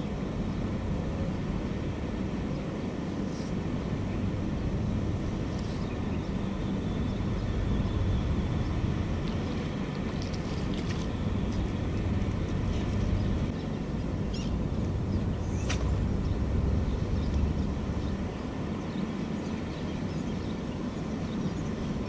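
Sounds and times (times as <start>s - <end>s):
distant city traffic rumble: 0.0s - 22.0s.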